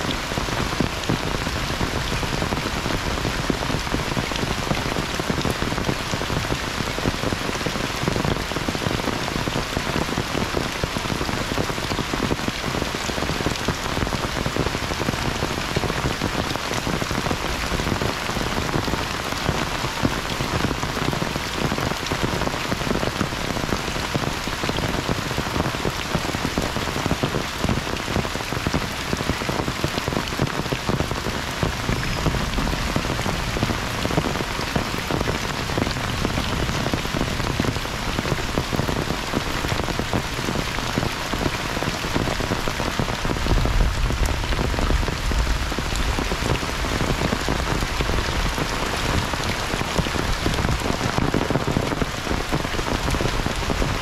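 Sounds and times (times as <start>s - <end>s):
heavy rain on water and foliage: 0.0s - 54.0s.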